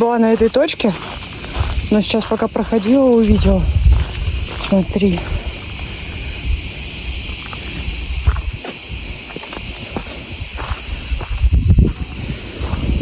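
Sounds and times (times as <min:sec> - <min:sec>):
high-pitched insect chorus: 0:00.0 - 0:13.0
wind rumbling on microphone: 0:00.0 - 0:13.0.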